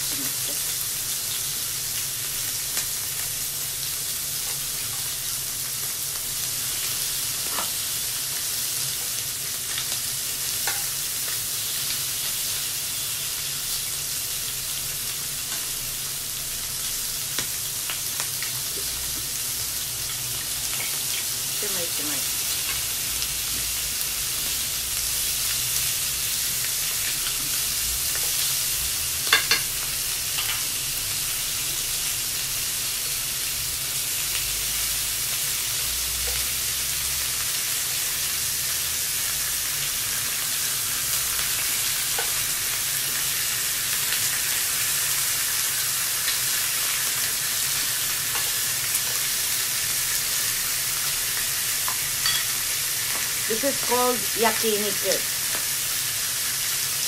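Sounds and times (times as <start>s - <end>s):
meat sizzling on a grill: 0.0s - 57.0s.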